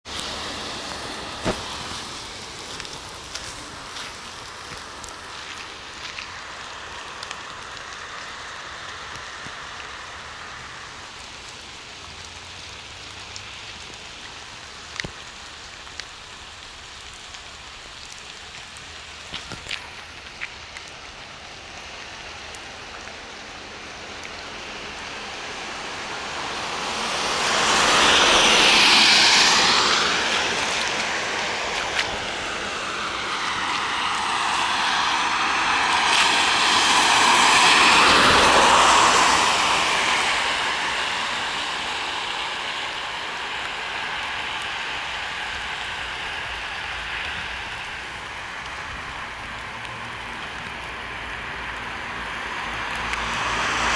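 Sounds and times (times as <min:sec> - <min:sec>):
car tyres spraying on wet road: 0:00.0 - 0:53.9
rain hissing on pavement: 0:00.0 - 0:53.9.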